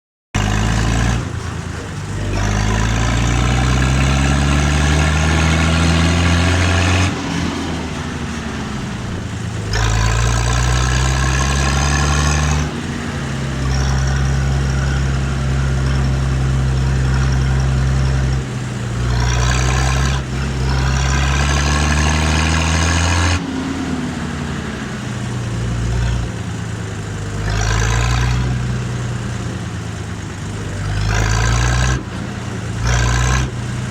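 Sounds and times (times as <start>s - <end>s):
tractor diesel engine revving: 0.3s - 33.9s.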